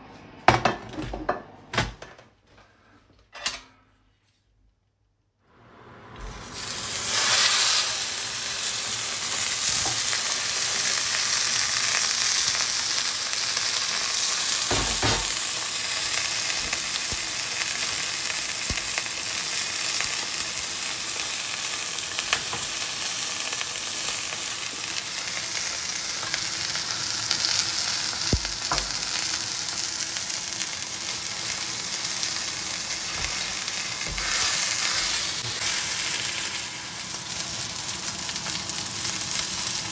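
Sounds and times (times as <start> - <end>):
steak sizzling in frying pan: 6.5 - 39.9.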